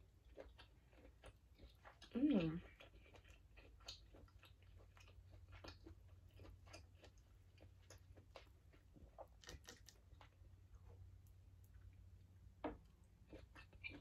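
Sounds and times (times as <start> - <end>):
low steady hum: 0.0 - 14.0
wet chewing: 0.0 - 14.0.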